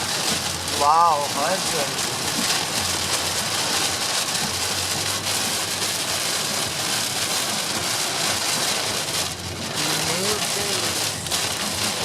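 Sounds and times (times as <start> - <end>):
heavy rain on car roof: 0.0 - 12.0.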